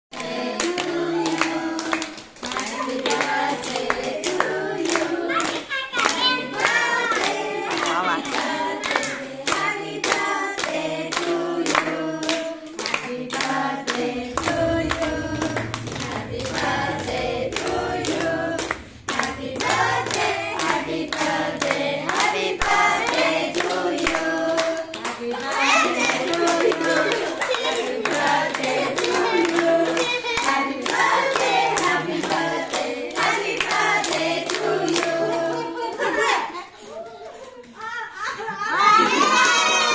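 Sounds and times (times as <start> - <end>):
people clapping along: 0.1 - 36.3, 39.0 - 39.9
group singing a birthday song: 0.1 - 37.3, 38.4 - 39.9.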